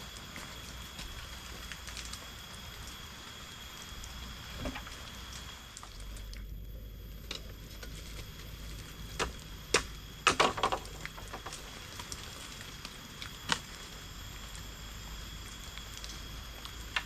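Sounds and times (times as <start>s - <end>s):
faint high whine: 0.0s - 17.0s
steady background hiss: 0.0s - 17.0s.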